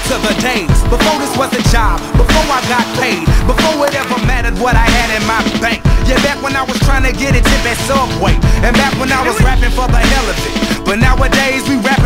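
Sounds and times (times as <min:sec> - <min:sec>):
vocals over hip hop beat: 0:00.0 - 0:12.0.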